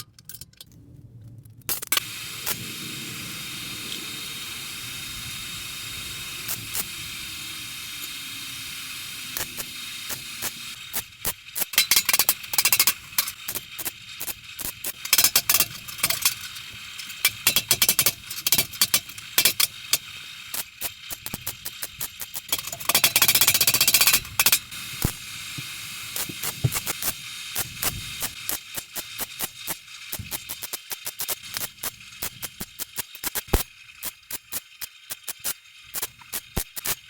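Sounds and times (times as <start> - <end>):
welder crackling: 1.7 - 37.0.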